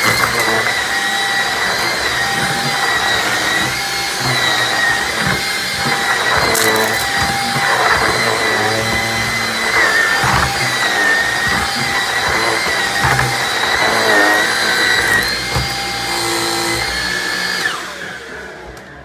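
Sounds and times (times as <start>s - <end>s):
vacuum cleaner whine: 0.0s - 19.0s.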